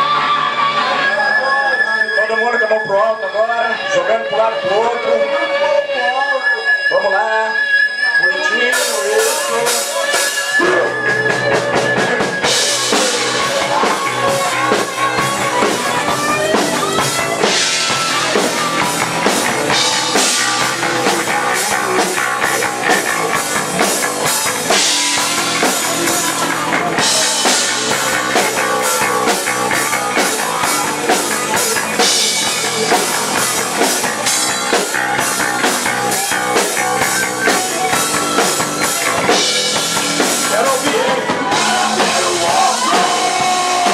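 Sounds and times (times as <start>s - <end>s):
rock band playing: 0.0s - 43.9s.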